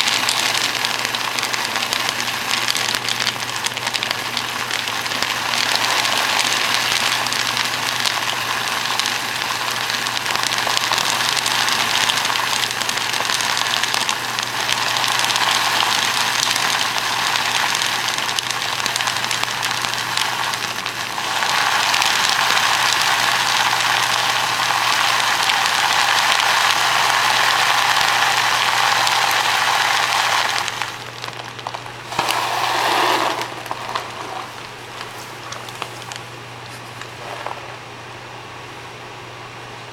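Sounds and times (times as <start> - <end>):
kibble pouring: 0.0 - 37.8.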